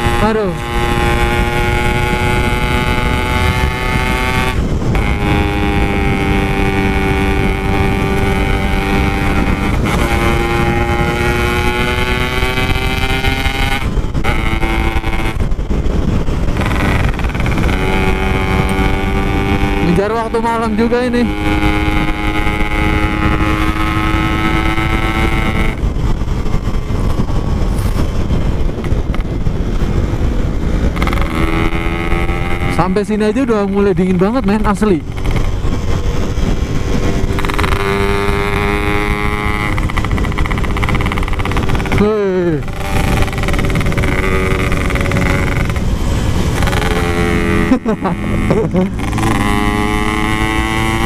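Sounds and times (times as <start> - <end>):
motorcycle engine running: 0.0 - 51.0
road rumble: 0.0 - 51.0
wind: 0.0 - 51.0.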